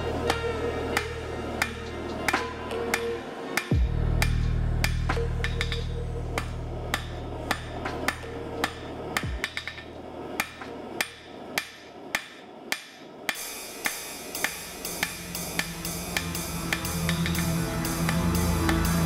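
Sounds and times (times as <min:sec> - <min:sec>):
background music: 0:00.0 - 0:11.8, 0:13.4 - 0:19.0
hammer striking steel on anvil: 0:00.2 - 0:19.0.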